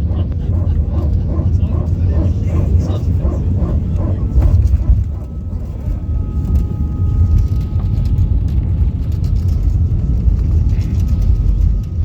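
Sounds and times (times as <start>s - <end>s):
airplane cabin rumble: 0.0s - 12.0s
faint engine whine: 0.0s - 12.0s.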